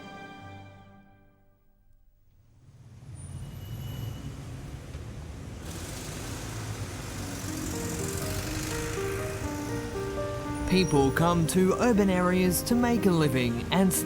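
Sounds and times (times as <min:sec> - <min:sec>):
road traffic rumble: 0:02.4 - 0:14.0.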